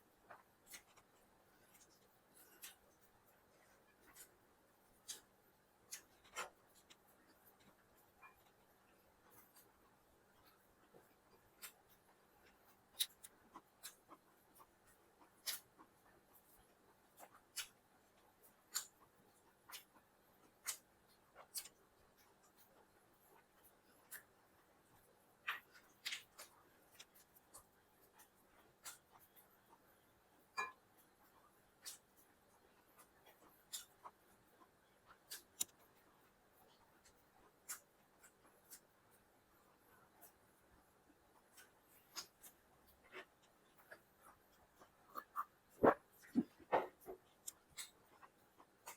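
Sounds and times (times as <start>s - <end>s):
person eating clicks and smacks: 0.3s - 4.3s, 4.9s - 5.3s, 5.9s - 8.6s, 9.2s - 22.7s, 23.3s - 40.5s, 41.4s - 48.9s.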